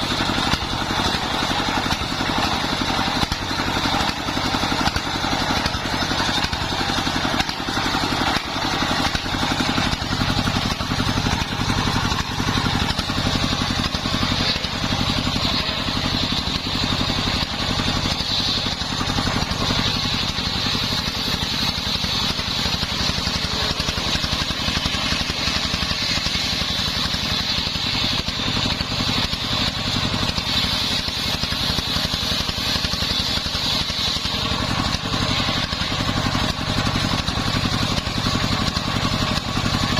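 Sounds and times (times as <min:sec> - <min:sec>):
saw blade high whine: 0:00.0 - 0:39.9
sawmill engine drone: 0:00.0 - 0:39.9.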